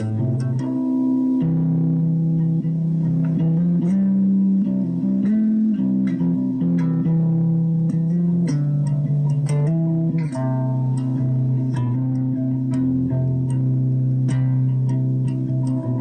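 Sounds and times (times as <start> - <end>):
plucked guitar with bass: 0.0 - 16.0.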